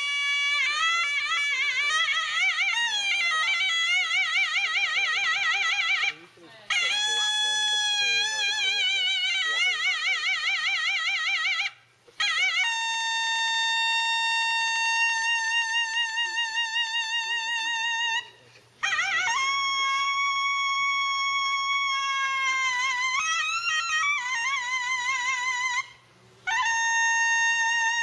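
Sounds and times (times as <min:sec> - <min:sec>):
bamboo flute playing solo: 0:00.0 - 0:28.0.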